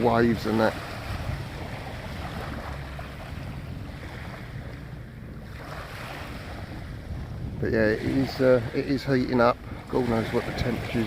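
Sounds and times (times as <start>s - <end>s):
sea waves washing on shore: 0.0s - 11.0s
wind buffeting microphone: 0.0s - 11.0s.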